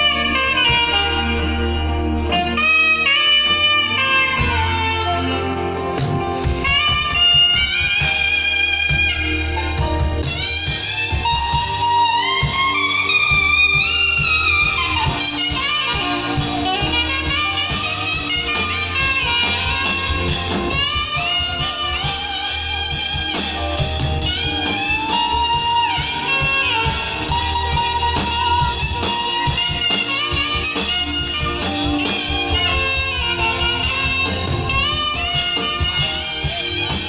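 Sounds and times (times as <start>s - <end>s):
saxophone melody with vibrato: 0.0s - 37.0s
steady bass backing: 0.0s - 37.0s.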